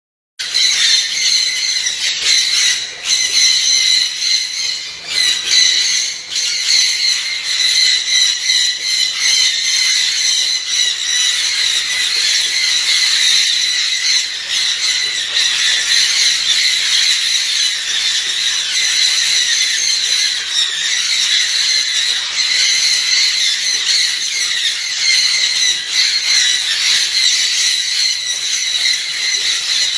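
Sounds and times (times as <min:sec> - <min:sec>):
small birds chattering and squealing: 0:00.4 - 0:29.9.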